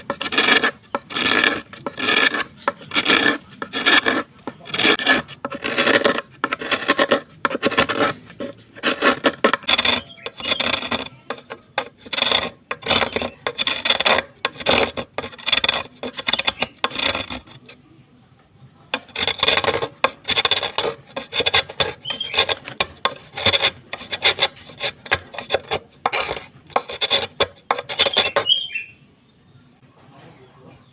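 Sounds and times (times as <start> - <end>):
hand tool rasping on bamboo: 0.0 - 17.8, 18.9 - 28.7.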